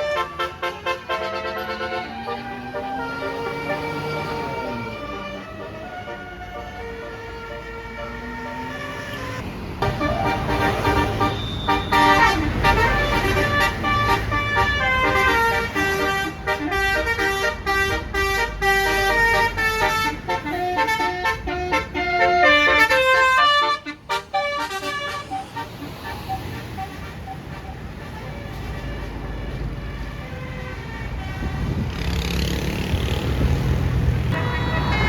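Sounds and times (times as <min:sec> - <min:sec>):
bus horn playing melody: 0:00.0 - 0:32.3, 0:34.2 - 0:35.0
bus engine rumble: 0:00.0 - 0:35.0.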